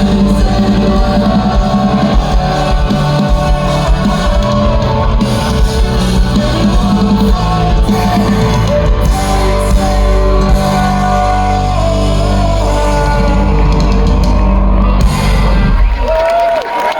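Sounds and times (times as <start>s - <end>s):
person singing: 0.0s - 15.4s
folk-punk band playing: 0.0s - 16.6s.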